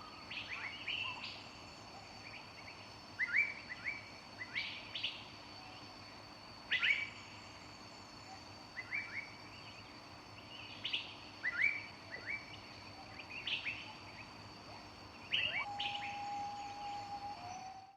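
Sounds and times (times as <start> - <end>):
faint high-pitched whine: 0.0 - 17.9.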